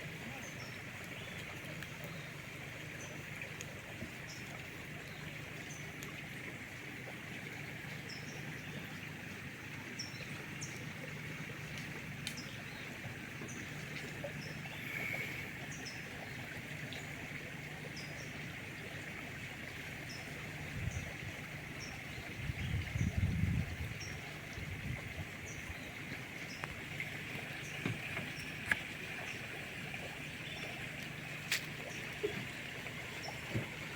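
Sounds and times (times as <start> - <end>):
water rushing: 0.0 - 33.9.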